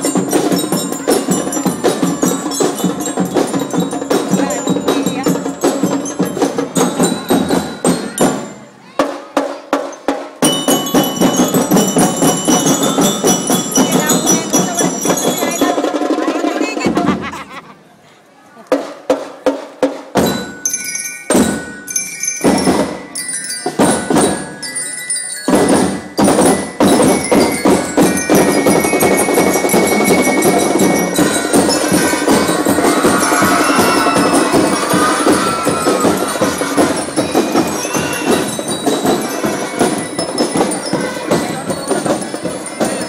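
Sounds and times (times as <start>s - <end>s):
drum strikes: 0.0s - 17.3s, 18.7s - 24.8s, 25.4s - 43.0s
marching band playing: 0.0s - 17.6s, 18.7s - 43.0s.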